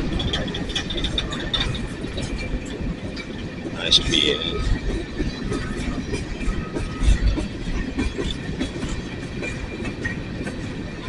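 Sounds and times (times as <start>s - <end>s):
train rumble: 0.0s - 11.0s
train wheels clicking on rail joints: 0.0s - 11.0s.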